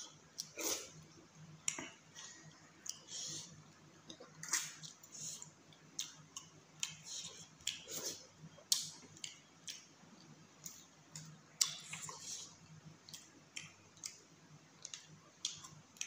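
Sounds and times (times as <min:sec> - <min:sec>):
person chewing food: 0:00.1 - 0:16.0.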